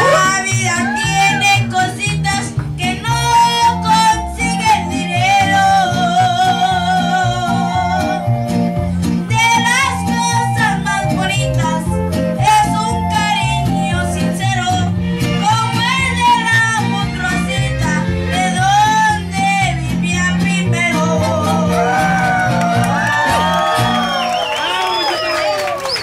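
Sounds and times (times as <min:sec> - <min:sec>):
boy singing into a microphone: 0:00.0 - 0:08.2, 0:09.3 - 0:22.0
instrumental accompaniment: 0:00.0 - 0:24.4.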